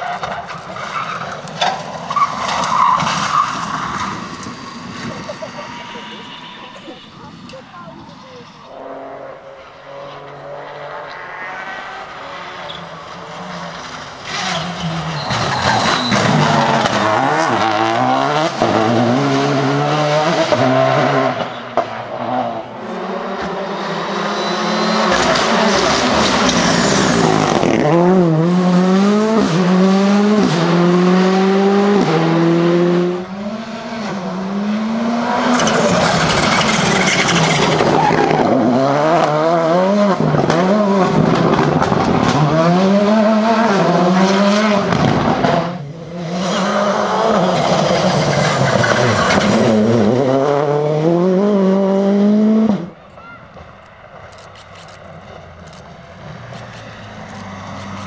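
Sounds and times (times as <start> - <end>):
rally car engines at full throttle: 0.0 - 58.0.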